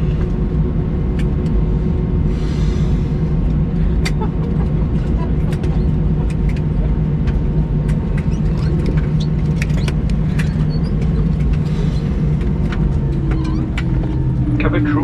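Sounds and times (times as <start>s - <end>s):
vehicle cabin rumble and hum: 0.0s - 15.0s.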